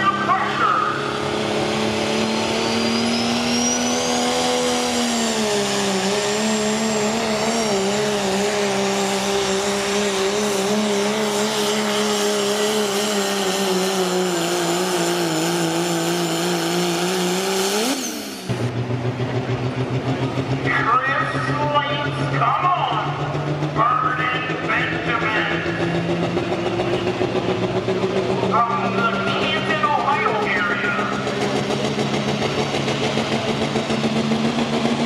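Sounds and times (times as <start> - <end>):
diesel engine at high revs: 0.0 - 35.0.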